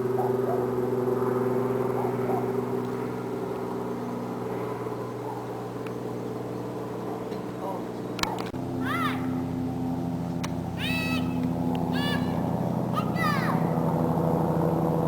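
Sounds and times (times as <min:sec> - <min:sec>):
helicopter drone: 0:00.0 - 0:15.0.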